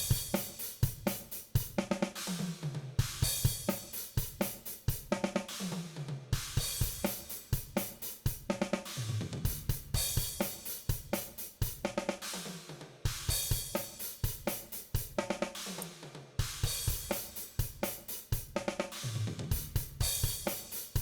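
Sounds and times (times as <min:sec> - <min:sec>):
drum kit groove: 0:00.0 - 0:21.0.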